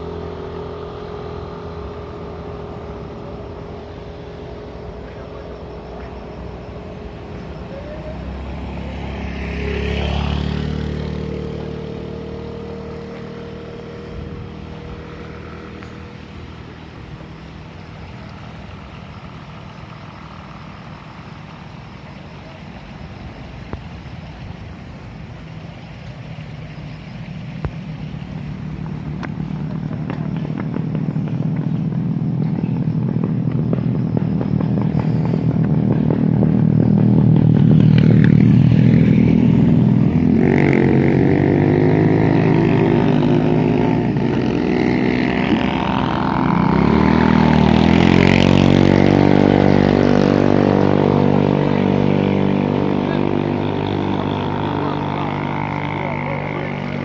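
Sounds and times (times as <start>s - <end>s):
vehicle engines running: 0.0s - 57.0s
vehicle passing by: 0.0s - 57.0s.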